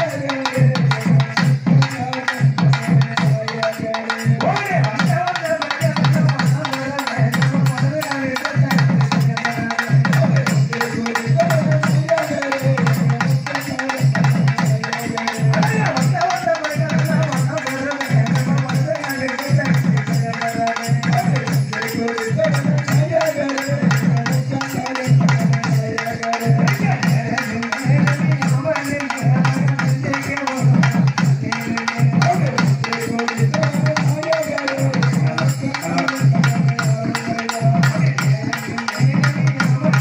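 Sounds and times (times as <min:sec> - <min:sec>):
drum beating fast rhythm: 0:00.0 - 0:40.0
man singing through loudspeaker: 0:00.0 - 0:40.0.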